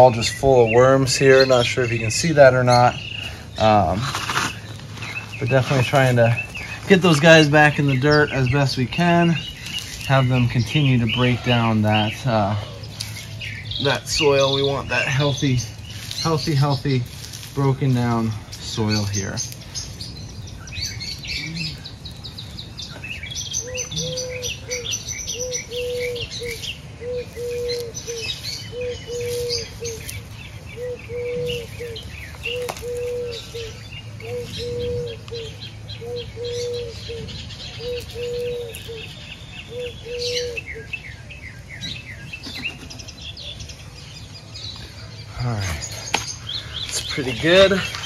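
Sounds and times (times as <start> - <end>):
birds chirping and twittering: 0.0 - 48.0.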